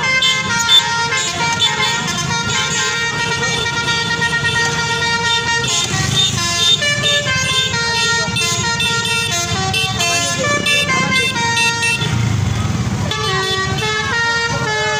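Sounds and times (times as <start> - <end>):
bus horn melody: 0.0 - 14.9.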